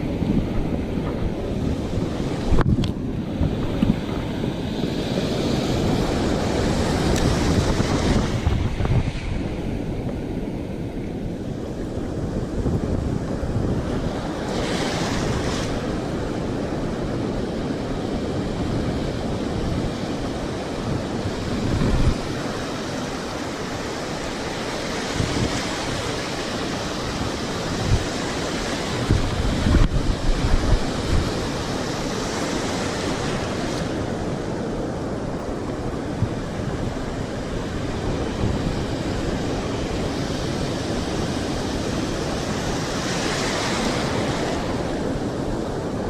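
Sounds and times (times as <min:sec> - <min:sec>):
ocean surf washing on beach: 0:00.0 - 0:46.0
wind buffeting the microphone: 0:00.0 - 0:46.0.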